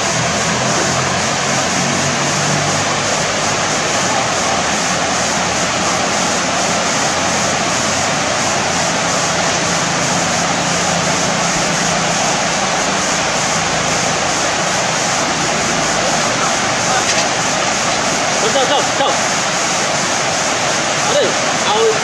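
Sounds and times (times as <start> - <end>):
water spilling over a weir: 0.0 - 22.0.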